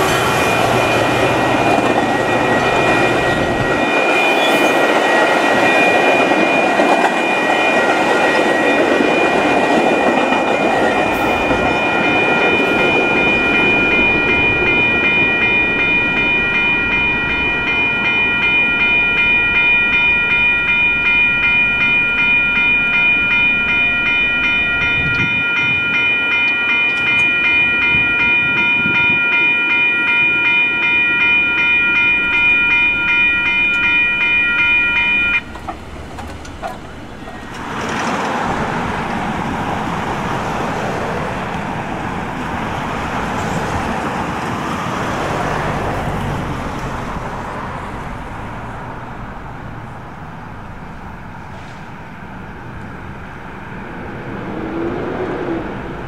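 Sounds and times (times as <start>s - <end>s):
railroad crossing bell ringing: 0.0s - 54.7s
train rolling past: 0.0s - 56.0s.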